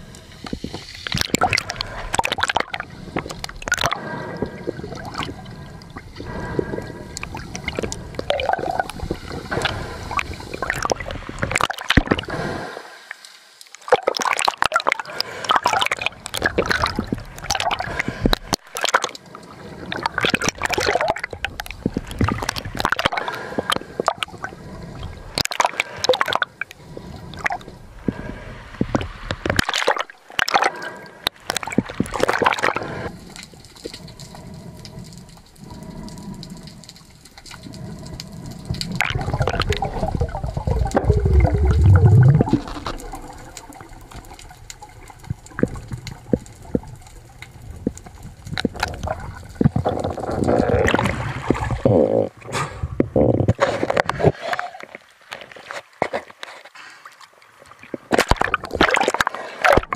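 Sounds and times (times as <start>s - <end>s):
water sloshing and gurgling: 0.0s - 59.9s.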